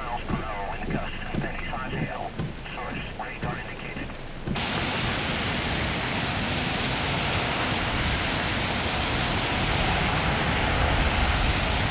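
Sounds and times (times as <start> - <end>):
torrential rain: 0.0 - 11.9
wind buffeting microphone: 0.0 - 11.9.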